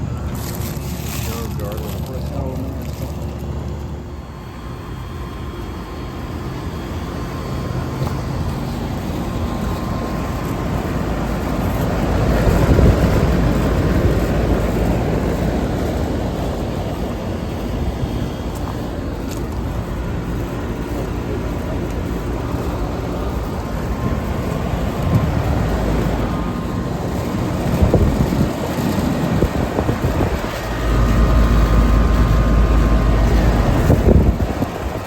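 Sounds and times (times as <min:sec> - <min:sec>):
air conditioner compressor hum: 0:00.0 - 0:35.0
low rumble of wind buffeting: 0:00.0 - 0:35.0.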